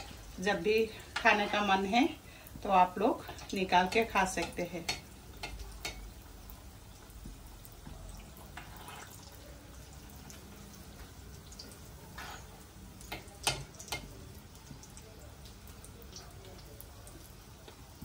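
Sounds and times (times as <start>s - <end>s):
deep-frying sizzle: 0.0s - 18.0s.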